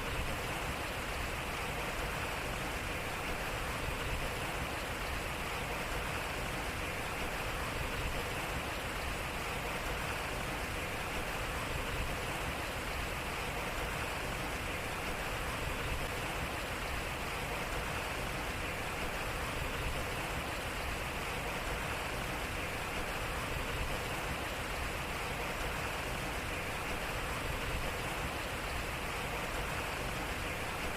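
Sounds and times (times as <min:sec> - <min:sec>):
water rushing off water wheel: 0:00.0 - 0:30.9.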